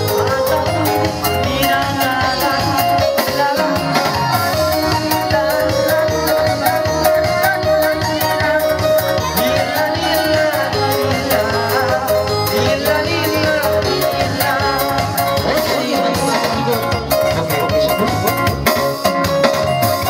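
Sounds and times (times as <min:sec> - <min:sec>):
dance music over loudspeaker: 0:00.0 - 0:18.9.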